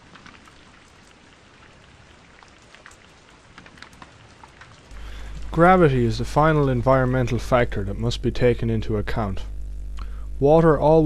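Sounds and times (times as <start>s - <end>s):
light rain hissing: 0.0s - 11.0s.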